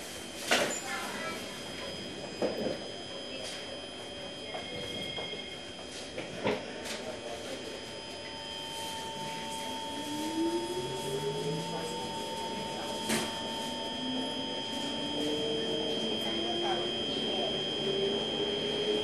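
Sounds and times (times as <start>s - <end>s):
steady high-pitched tones: 0.0s - 19.0s
train traction motor whine: 0.0s - 19.0s.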